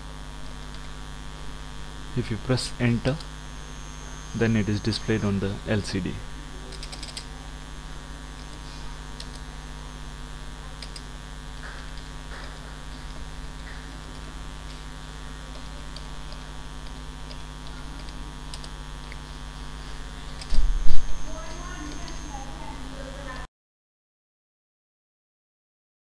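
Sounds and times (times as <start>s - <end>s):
electrical mains hum: 0.0s - 23.5s.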